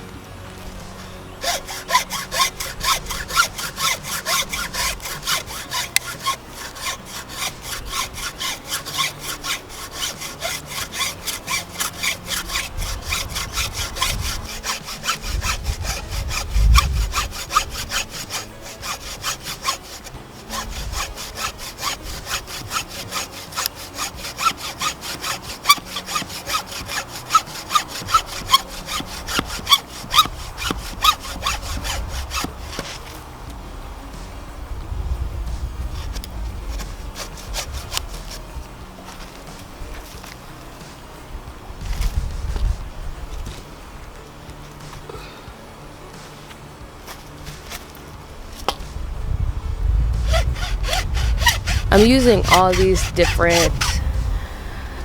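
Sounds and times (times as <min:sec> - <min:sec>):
hand saw cutting wood: 0:00.0 - 0:34.4, 0:35.4 - 0:45.3, 0:45.9 - 0:49.0, 0:50.1 - 0:54.2.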